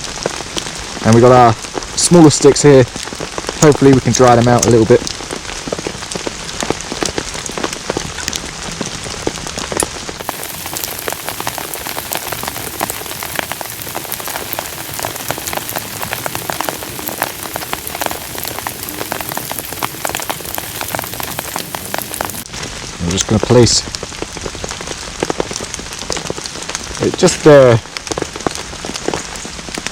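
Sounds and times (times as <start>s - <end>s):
heavy rain falling: 0.0s - 29.9s
raindrops striking close by: 0.0s - 29.9s.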